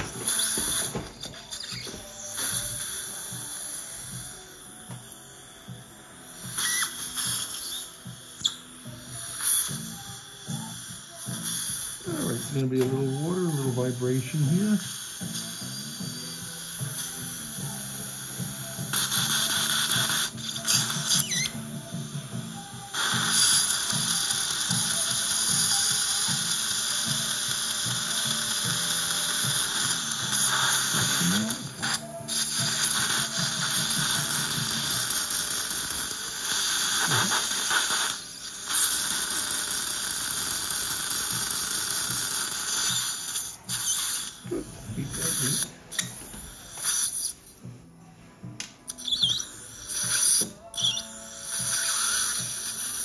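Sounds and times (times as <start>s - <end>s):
dental suction hissing: 0.0s - 47.6s, 48.8s - 53.0s.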